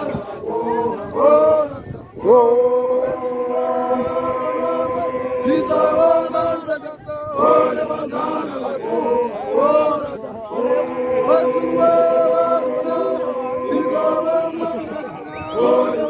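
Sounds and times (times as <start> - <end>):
male voices chanting: 0.0 - 16.0.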